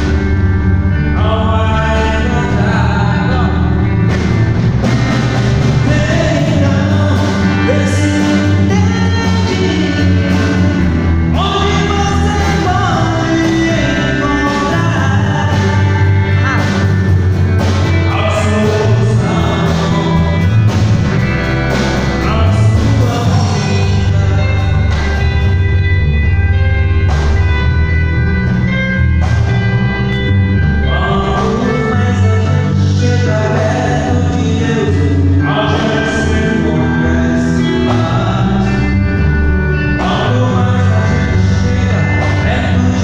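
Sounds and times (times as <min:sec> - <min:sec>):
bass: 0:00.0 - 0:43.0
drums: 0:00.0 - 0:43.0
person singing: 0:00.9 - 0:04.2, 0:05.5 - 0:25.8, 0:30.1 - 0:43.0.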